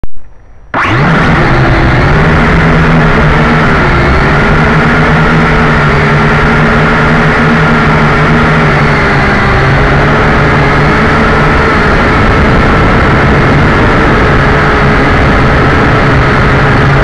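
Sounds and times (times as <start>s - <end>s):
drone propellers whining: 0.3s - 17.0s.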